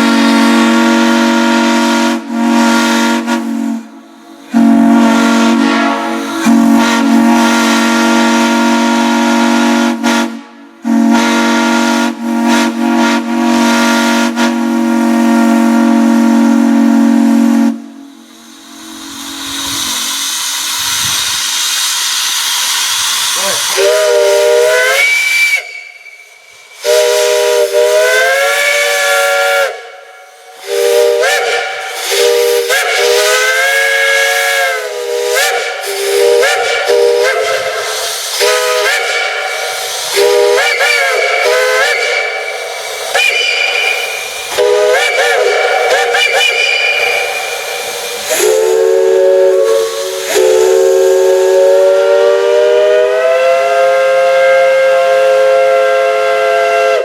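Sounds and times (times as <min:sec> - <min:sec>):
deep chime steam whistle: 0:00.0 - 0:57.0
steam hissing: 0:00.0 - 0:57.0.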